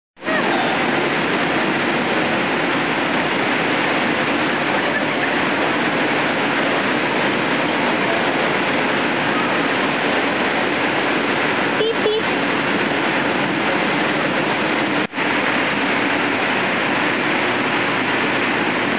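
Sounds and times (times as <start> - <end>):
electric air blowers rushing: 0.2 - 18.9.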